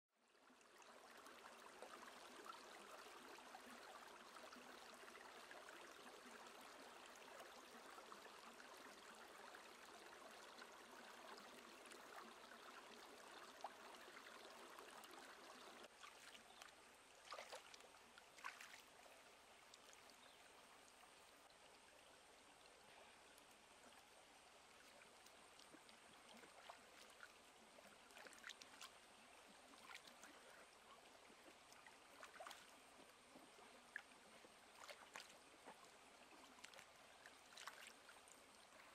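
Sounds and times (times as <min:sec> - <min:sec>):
stream running over rocks: 0:00.4 - 0:38.9.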